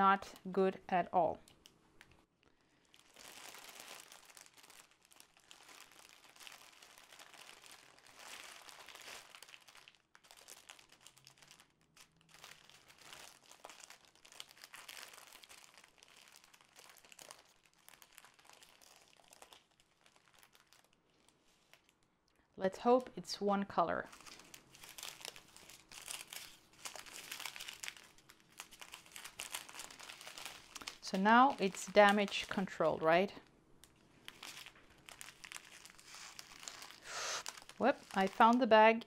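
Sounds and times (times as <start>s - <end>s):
plastic sleeve crinkling: 1.4s - 22.1s, 24.0s - 39.0s.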